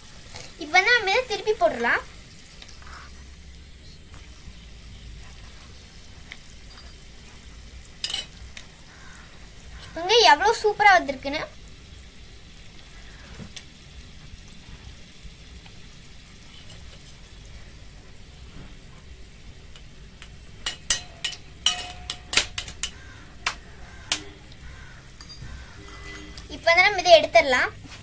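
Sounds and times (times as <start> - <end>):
hot oil sizzling: 0.0 - 28.0.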